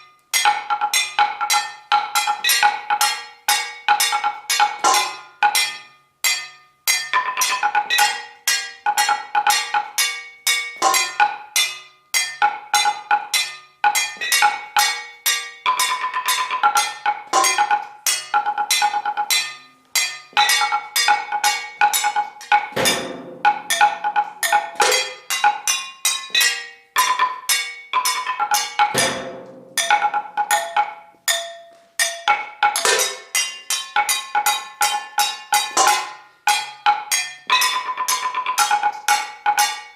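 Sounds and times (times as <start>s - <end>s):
percussion on struck metal: 0.0s - 39.9s.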